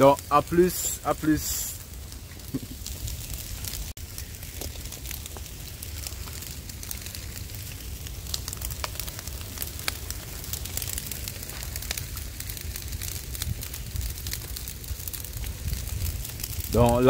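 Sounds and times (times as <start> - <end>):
brush fire crackling: 0.0 - 17.0.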